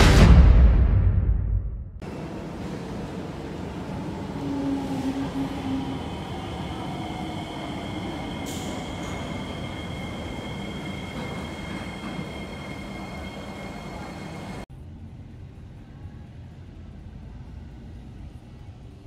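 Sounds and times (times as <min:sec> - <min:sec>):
train rumble: 0:02.0 - 0:19.0.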